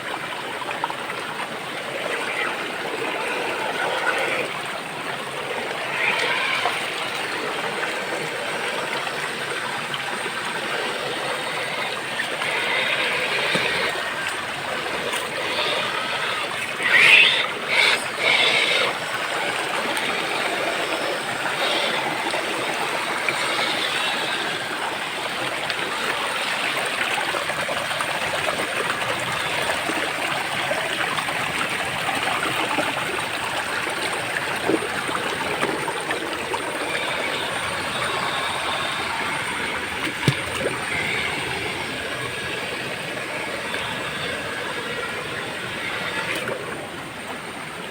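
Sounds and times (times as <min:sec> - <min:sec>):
running water: 0:00.0 - 0:47.9.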